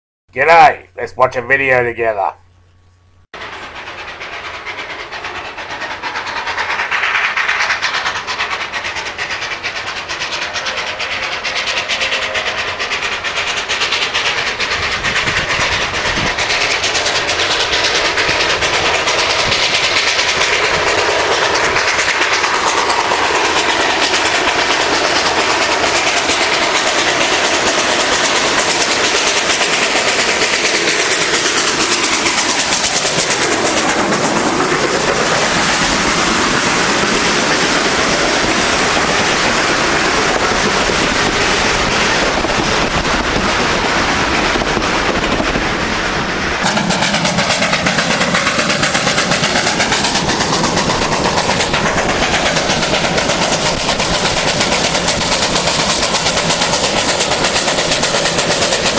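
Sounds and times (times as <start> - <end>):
steam train running: 0.4 - 58.9.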